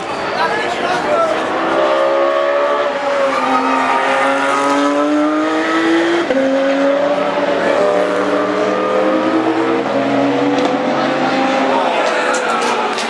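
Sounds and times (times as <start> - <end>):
racing car engine accelerating: 1.4 - 13.0.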